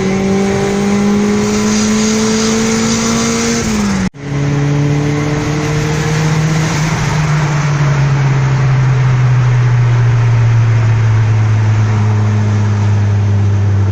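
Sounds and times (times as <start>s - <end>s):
car engine running: 0.0s - 13.9s
road noise: 0.0s - 13.9s.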